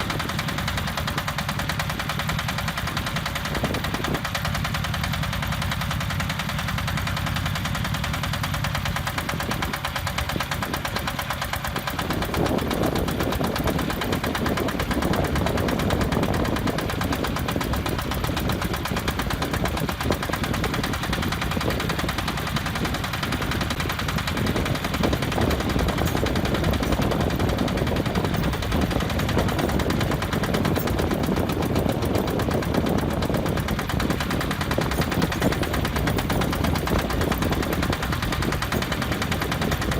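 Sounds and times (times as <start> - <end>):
concrete mixer engine clatter: 0.0 - 39.9.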